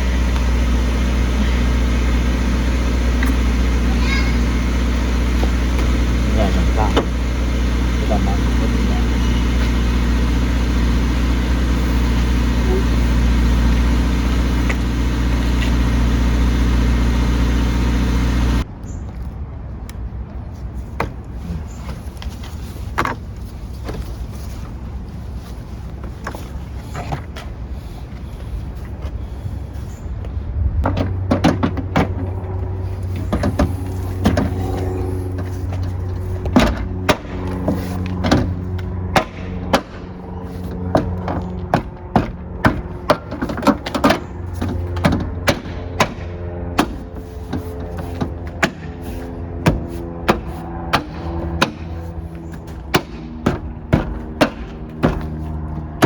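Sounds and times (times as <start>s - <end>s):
car engine idling: 0.0s - 18.7s, 21.6s - 56.0s
steady low hum: 0.0s - 18.7s, 20.2s - 56.0s.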